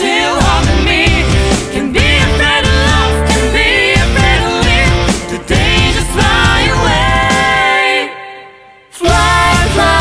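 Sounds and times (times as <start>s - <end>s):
person singing: 0.0s - 10.0s
steady bass line: 0.3s - 7.7s, 9.1s - 10.0s.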